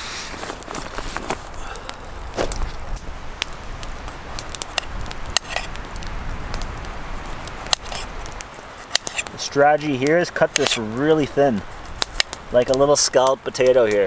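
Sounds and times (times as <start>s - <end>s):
campfire burning: 0.0s - 14.0s.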